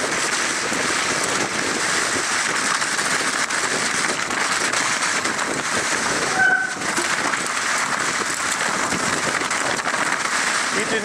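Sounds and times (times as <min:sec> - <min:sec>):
bike tyres rattling through slush: 0:00.0 - 0:11.0.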